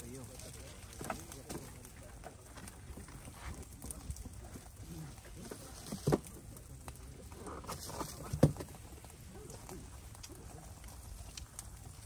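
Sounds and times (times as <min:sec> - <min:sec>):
low voices murmuring: 0:00.0 - 0:12.0.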